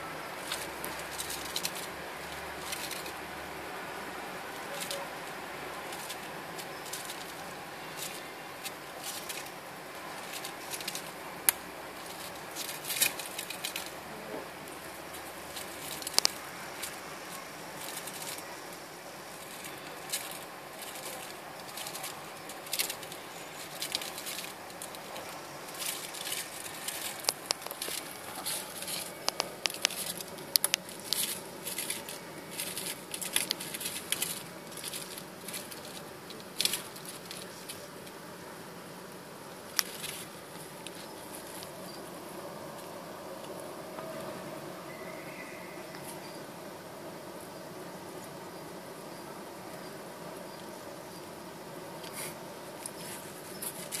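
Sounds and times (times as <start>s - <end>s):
room noise: 0.0s - 54.0s
small claws scratching on newspaper: 0.2s - 38.4s, 39.1s - 43.7s, 52.0s - 54.0s.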